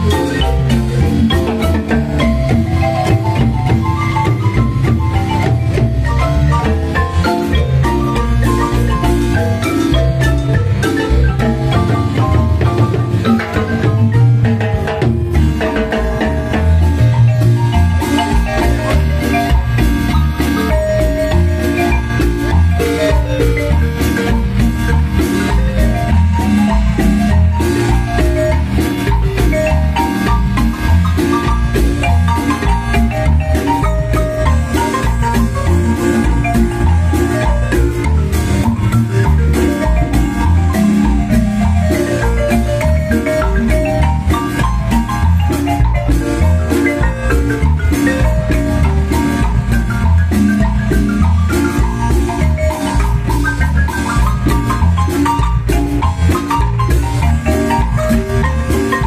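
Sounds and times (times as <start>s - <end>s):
marimba ensemble playing: 0.0s - 59.0s.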